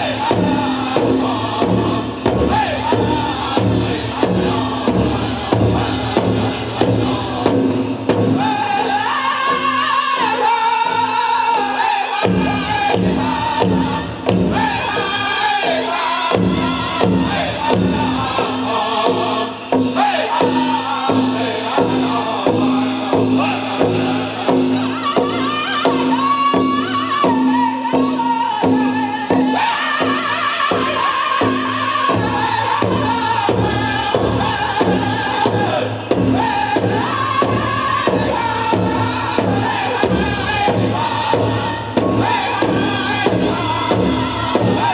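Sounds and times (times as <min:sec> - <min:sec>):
steady big drum beat: 0:00.0 - 0:11.1, 0:12.2 - 0:44.9
men singing in high voices: 0:00.0 - 0:44.9.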